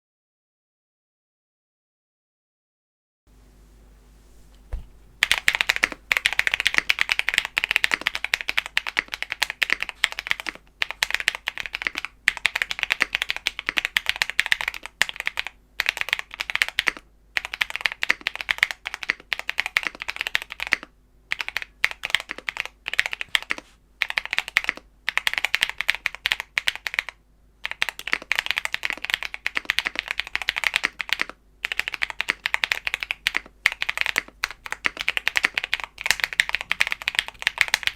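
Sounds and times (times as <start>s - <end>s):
mechanical keyboard typing: 5.2s - 37.9s.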